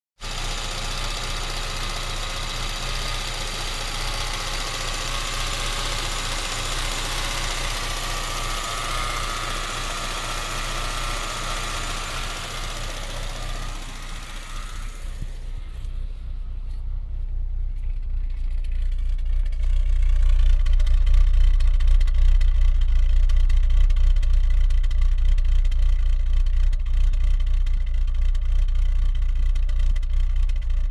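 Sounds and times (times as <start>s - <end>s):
car engine idling roughly: 0.2s - 30.9s.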